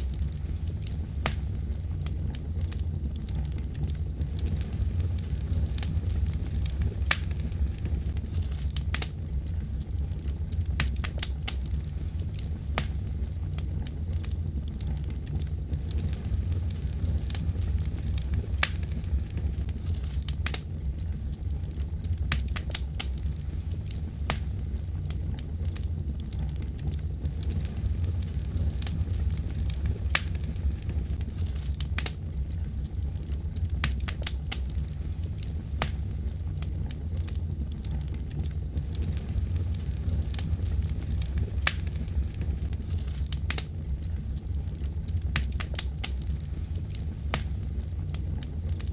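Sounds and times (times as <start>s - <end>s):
fire crackling and popping: 0.0s - 48.9s.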